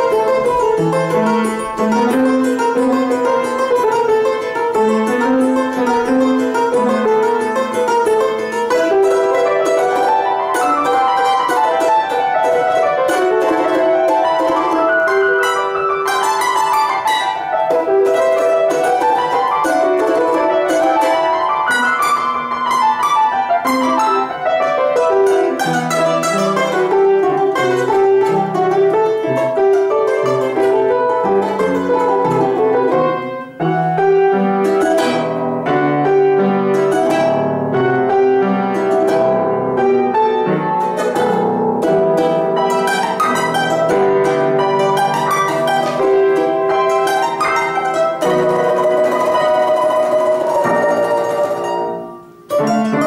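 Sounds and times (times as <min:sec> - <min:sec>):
balalaika played fast: 0:00.0 - 0:53.0
piano bass notes: 0:00.0 - 0:53.0.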